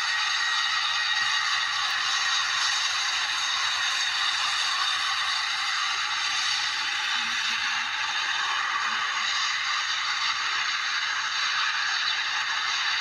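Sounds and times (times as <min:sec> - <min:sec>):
jet engines at take-off thrust: 0:00.0 - 0:13.0.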